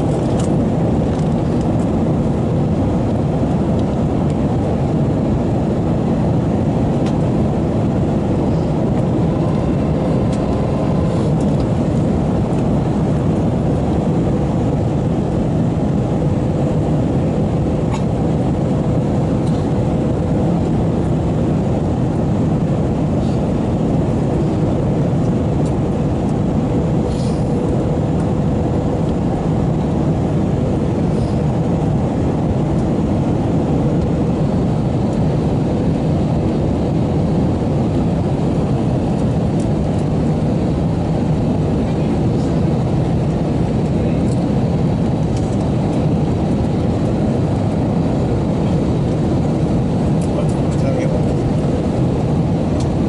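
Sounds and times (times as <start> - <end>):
jet engines roaring: 0.0 - 53.0
rushing air: 5.0 - 24.9, 25.8 - 53.0.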